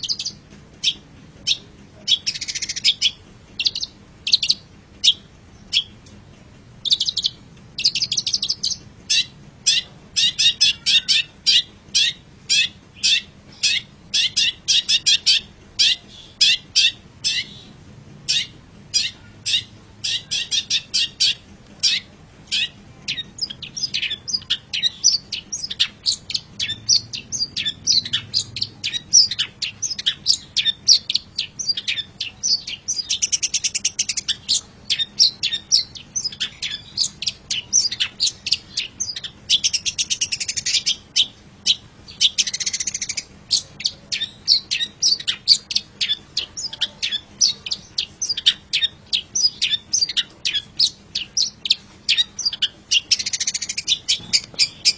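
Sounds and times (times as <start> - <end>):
harsh buzzy bird rasps: 0.0 - 5.9, 6.8 - 54.9
bird chirping song: 0.0 - 54.9.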